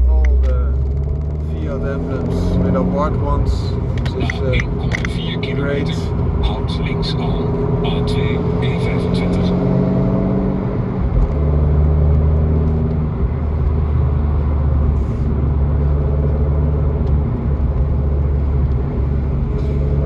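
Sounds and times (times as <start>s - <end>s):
car engine droning: 0.0s - 20.0s
road noise: 0.0s - 20.0s.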